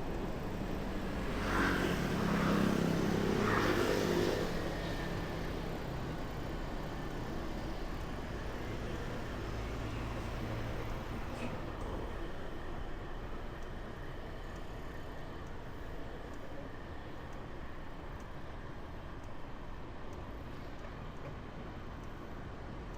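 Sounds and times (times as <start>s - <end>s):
street traffic road noise: 0.0s - 22.9s.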